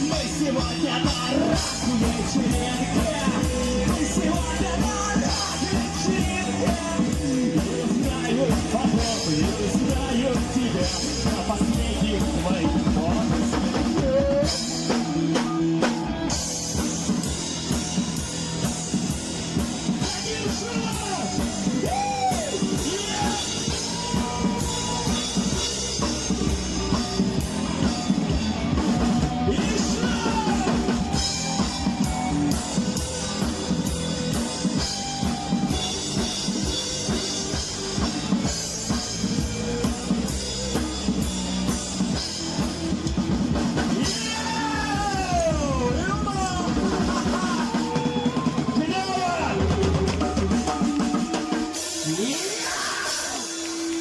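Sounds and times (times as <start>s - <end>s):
drum kit beat: 0.0s - 54.0s.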